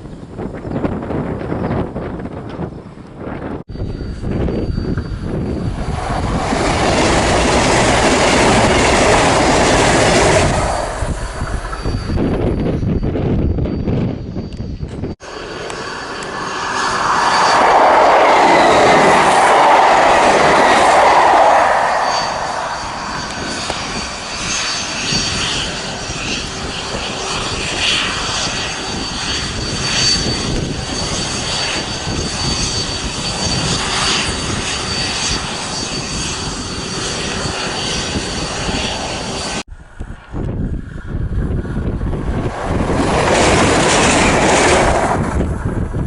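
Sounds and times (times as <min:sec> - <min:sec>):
aircraft flying past: 0:03.5 - 0:12.2, 0:15.2 - 0:46.0.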